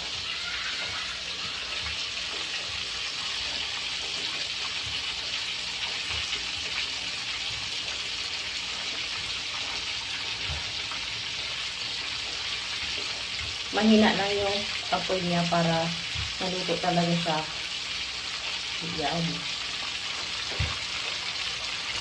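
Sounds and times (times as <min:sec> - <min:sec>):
fish sizzling in oil: 0:00.0 - 0:22.0.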